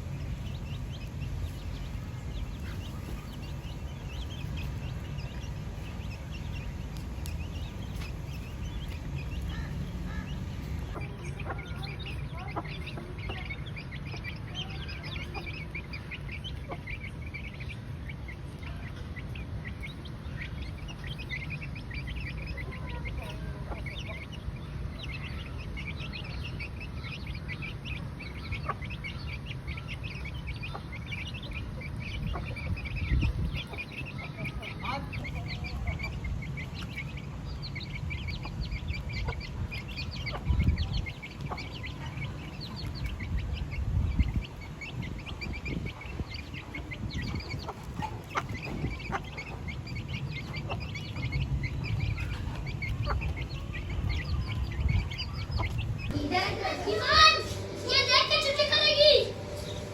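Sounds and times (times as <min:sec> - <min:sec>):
chickens clucking: 0:00.0 - 0:59.9
steady low rumble: 0:00.0 - 0:59.9.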